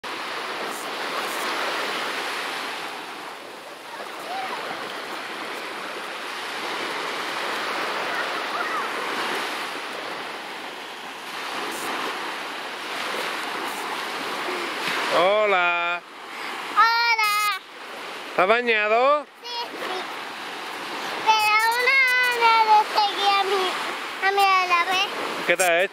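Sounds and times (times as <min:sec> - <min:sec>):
waves breaking on beach: 0:00.0 - 0:25.9.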